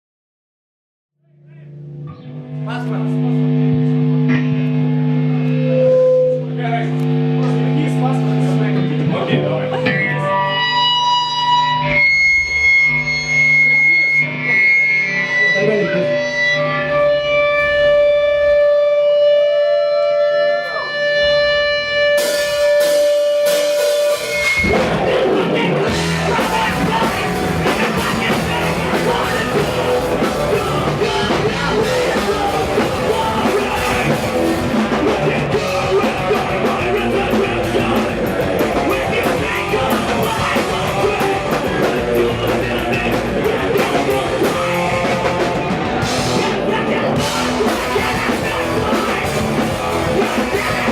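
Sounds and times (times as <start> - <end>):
held guitar notes with pitch bend: 1.2 - 50.9
rock band with drums: 1.4 - 50.9.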